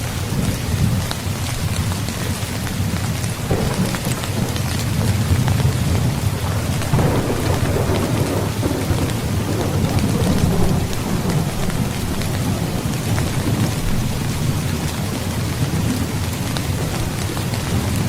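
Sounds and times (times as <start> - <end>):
heavy rain falling: 0.0 - 18.0
low rolling thunder: 0.2 - 18.0.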